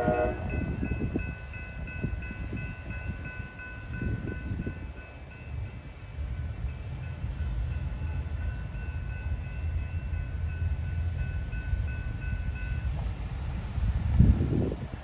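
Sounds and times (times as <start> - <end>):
passenger train rumbling past: 0.0 - 15.0.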